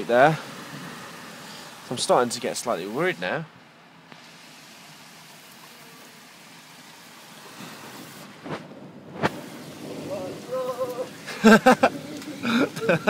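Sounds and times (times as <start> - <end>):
heavy rain pouring: 0.0 - 3.4, 4.2 - 13.0.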